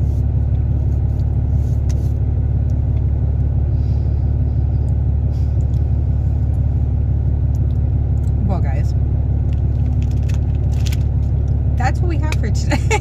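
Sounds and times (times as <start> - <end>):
constant hum: 0.0 - 13.0
low rumble: 0.0 - 13.0.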